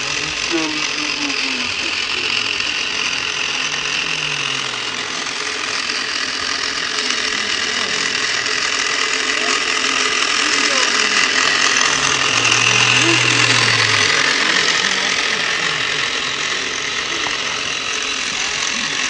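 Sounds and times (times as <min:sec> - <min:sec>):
small electric motor whirring: 0:00.0 - 0:19.0
wheels over loose gravel: 0:00.0 - 0:19.0.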